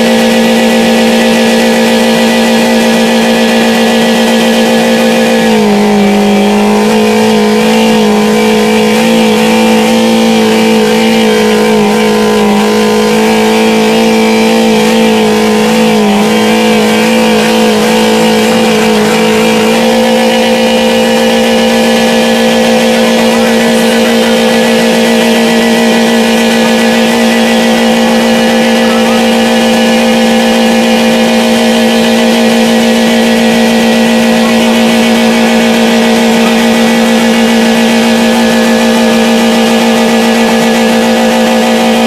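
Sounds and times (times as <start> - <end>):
car engine at high revs: 0.0 - 42.0.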